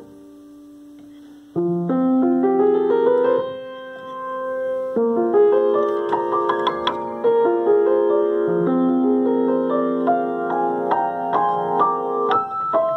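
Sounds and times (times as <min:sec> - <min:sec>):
grand piano playing: 0:01.6 - 0:12.9.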